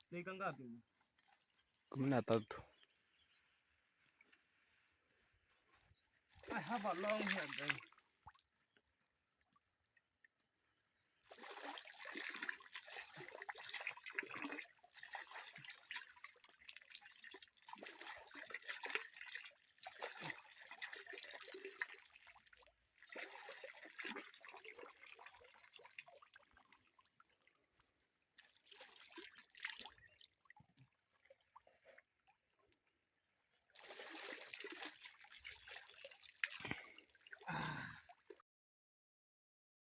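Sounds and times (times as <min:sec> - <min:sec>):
water splashing and trickling: 0:00.2 - 0:04.4, 0:06.3 - 0:38.4.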